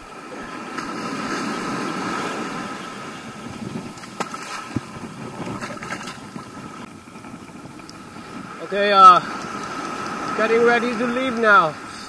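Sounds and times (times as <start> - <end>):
ocean surf washing on beach: 0.0 - 12.0
wind on microphone: 0.0 - 12.0.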